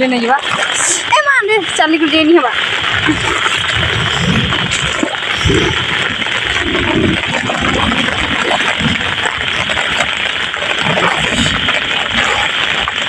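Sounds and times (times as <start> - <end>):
heavy rain hiss: 0.0 - 13.0
feet wading through muddy water: 0.2 - 13.0.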